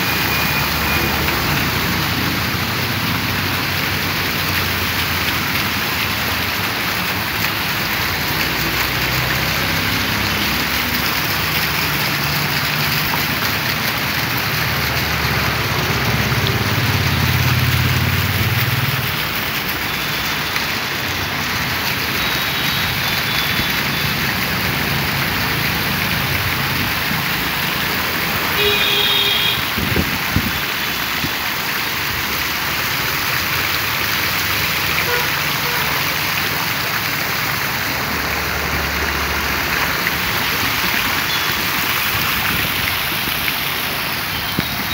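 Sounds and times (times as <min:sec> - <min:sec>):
fountain water splashing into pool: 0:00.0 - 0:44.9
low road traffic rumble: 0:00.0 - 0:44.9.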